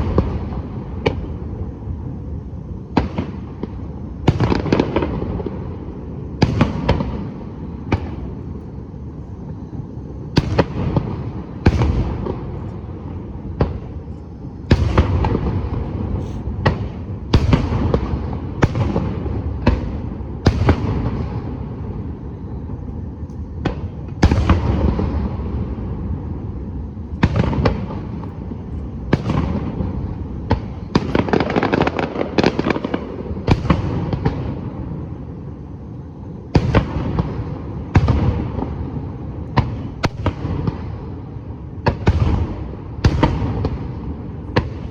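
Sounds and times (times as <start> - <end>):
fireworks booming with echo: 0.0 - 44.9.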